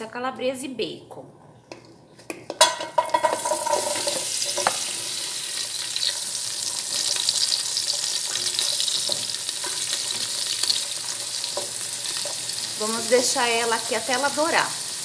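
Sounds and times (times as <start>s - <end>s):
meat sizzling in hot oil: 3.0s - 15.0s.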